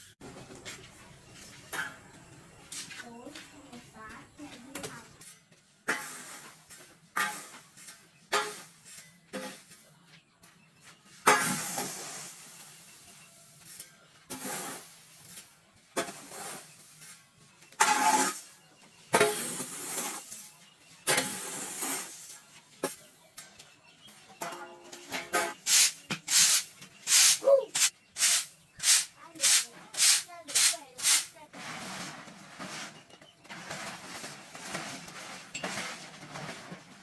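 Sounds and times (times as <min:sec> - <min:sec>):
rustling and scraping: 0:00.2 - 0:37.0.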